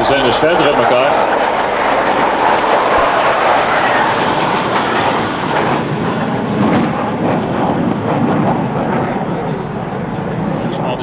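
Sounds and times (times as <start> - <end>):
fighter jets flying past: 0.0 - 11.0.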